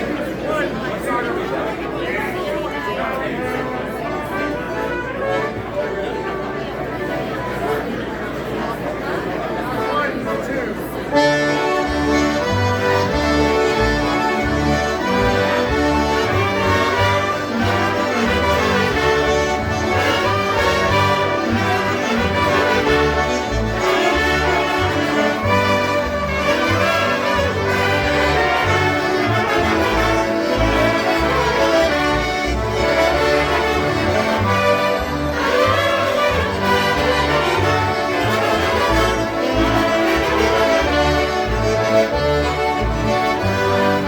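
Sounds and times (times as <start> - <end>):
concertinas playing polka: 3.1 - 44.0.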